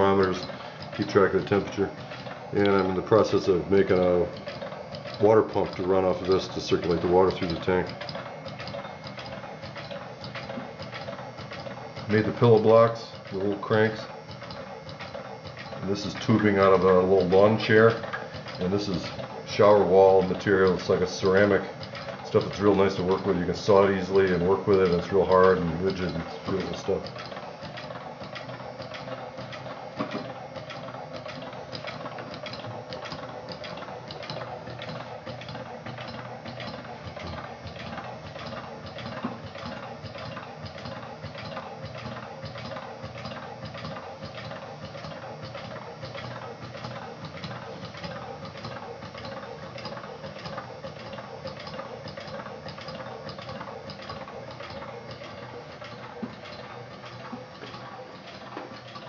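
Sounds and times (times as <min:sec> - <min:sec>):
engine linkage clicking: 0:00.0 - 0:59.0.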